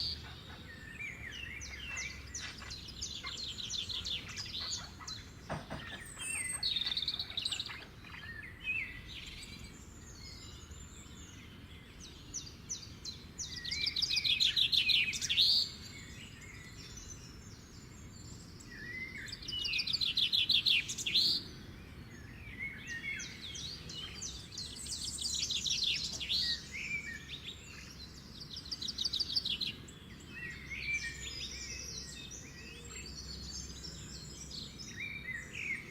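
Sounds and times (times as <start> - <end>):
songbirds trilling and chirping: 0.0 - 35.9.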